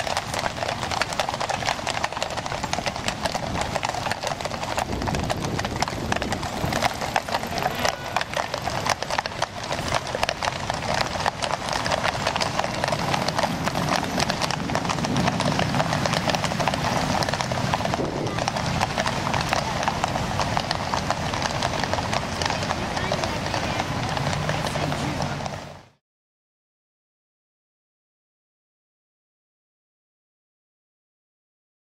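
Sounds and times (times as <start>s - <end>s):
horse hooves clip-clopping on pavement: 0.0s - 26.0s.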